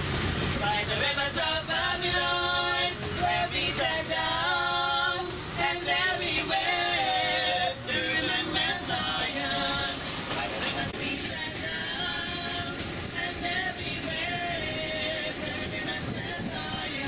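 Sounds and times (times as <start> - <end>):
low rumble of moving train: 0.0 - 17.0
women singing a cappella: 0.6 - 17.0.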